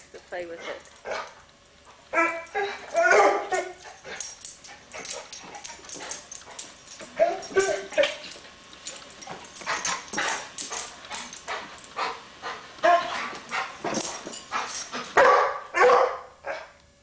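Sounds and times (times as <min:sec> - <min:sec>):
dog barking and yipping: 0:00.6 - 0:01.4, 0:02.1 - 0:16.8.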